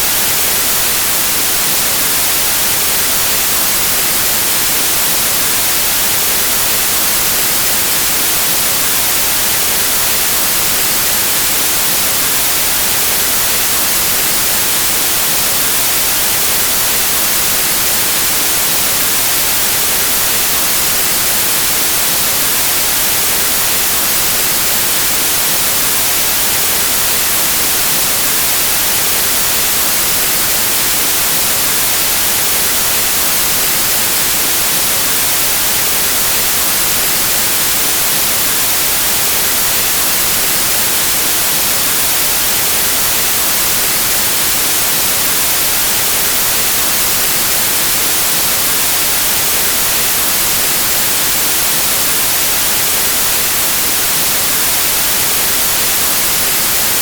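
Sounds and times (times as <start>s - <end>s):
white noise static: 0.0s - 57.0s.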